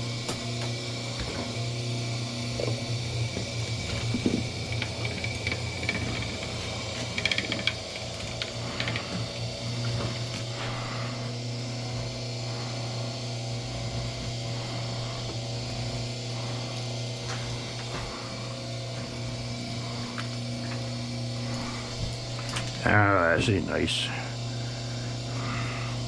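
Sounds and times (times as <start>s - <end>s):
wire stripping machine humming: 0.0s - 26.0s.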